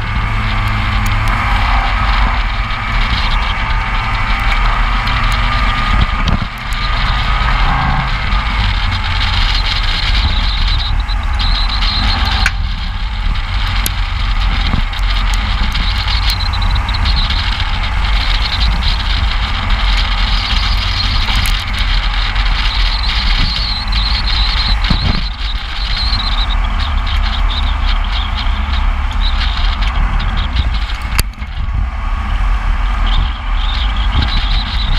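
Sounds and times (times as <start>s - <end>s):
high squeal: 0.0s - 31.2s
tyre and road noise: 0.0s - 34.9s
wind buffeting microphone: 0.0s - 34.9s.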